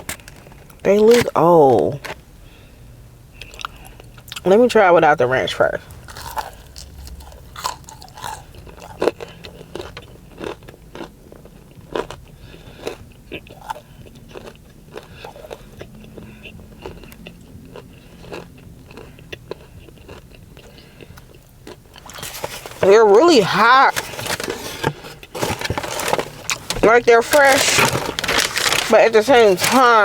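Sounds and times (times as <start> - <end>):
chewing crunchy fried chicken: 3.4 - 4.5, 5.8 - 30.0
breading crunching: 5.8 - 30.0.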